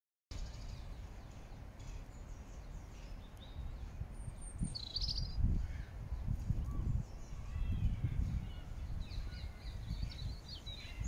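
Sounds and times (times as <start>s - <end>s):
robin chirping and trilling: 0.4s - 11.0s.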